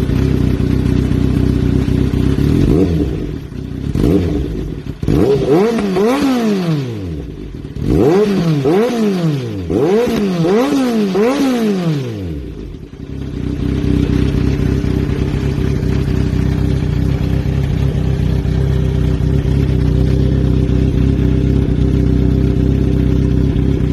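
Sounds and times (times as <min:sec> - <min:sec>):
motorcycle engine idling: 0:00.0 - 0:23.9
motorcycle engine revving: 0:00.0 - 0:23.9.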